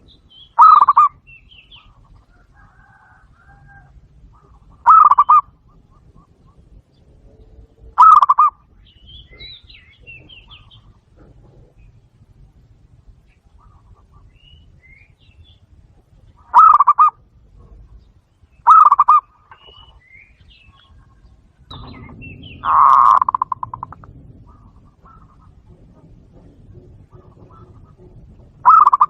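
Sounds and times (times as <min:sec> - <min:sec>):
dove trilling: 0:00.0 - 0:29.0
small birds chirping: 0:00.0 - 0:29.0.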